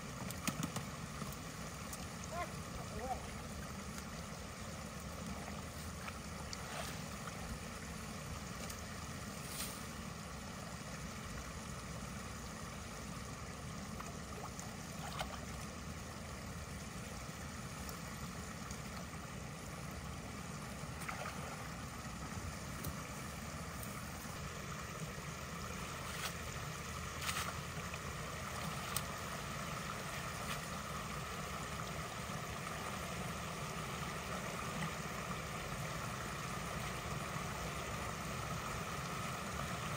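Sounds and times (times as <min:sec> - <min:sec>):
creek water rushing through culvert: 0:00.0 - 0:39.9.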